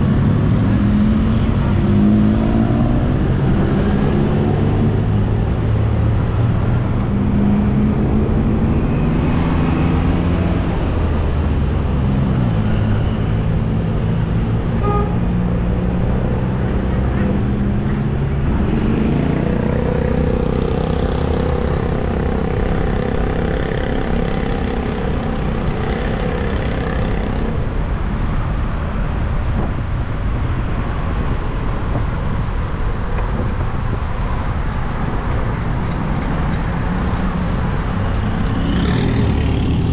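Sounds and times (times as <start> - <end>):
motorbike engines: 0.0 - 39.9
road noise rumble: 0.0 - 39.9.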